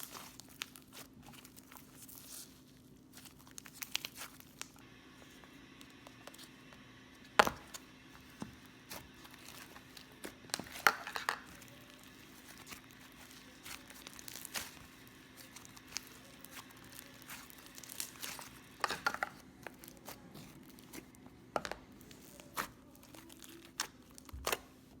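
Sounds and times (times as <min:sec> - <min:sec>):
slime squishing and crackling: 0:00.0 - 0:04.9, 0:07.5 - 0:25.0
faint steady hum: 0:00.0 - 0:25.0.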